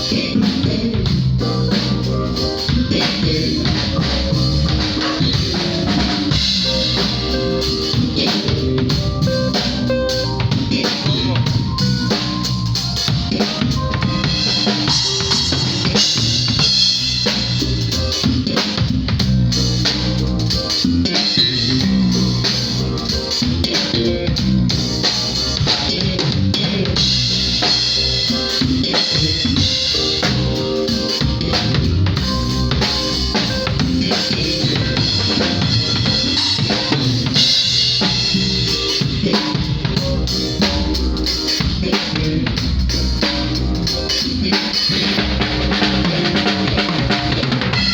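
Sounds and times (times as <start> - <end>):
live band playing a groove: 0.0 - 47.9.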